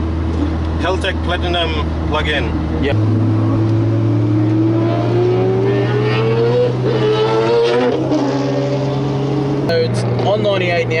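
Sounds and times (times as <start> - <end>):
car engine cruising from inside cabin: 0.0 - 11.0.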